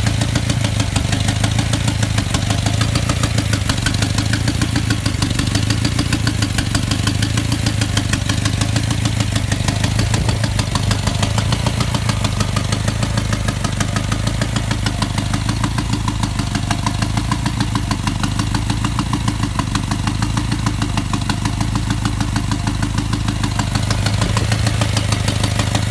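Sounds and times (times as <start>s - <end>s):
car engine idling: 0.0s - 25.9s
rapid engine knocking tick: 0.0s - 25.9s.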